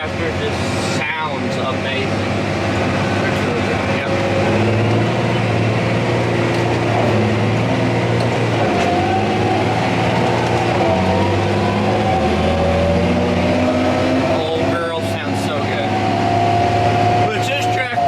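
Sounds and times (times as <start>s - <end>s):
tractor diesel engine exhaust: 0.0s - 18.0s.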